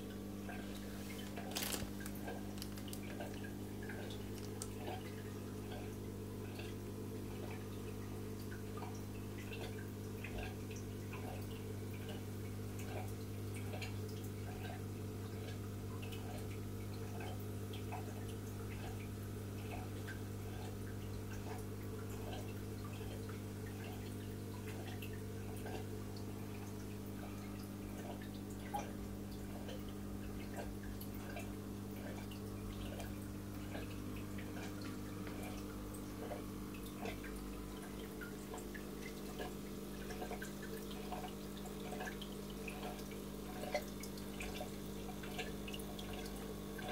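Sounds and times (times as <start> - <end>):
water trickling and dripping: 0.0 - 46.9.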